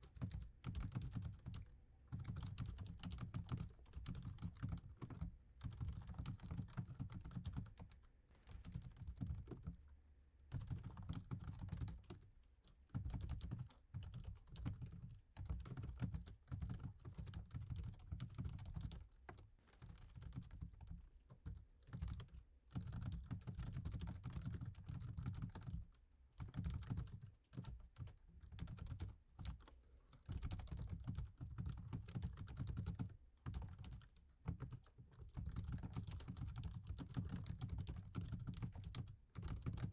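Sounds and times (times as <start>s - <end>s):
laptop keyboard typing: 0.0s - 9.8s, 10.5s - 12.3s, 12.9s - 39.9s.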